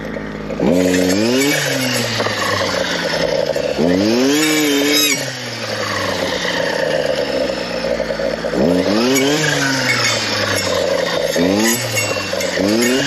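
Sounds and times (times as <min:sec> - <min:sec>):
clearing saw engine revving: 0:00.0 - 0:13.0.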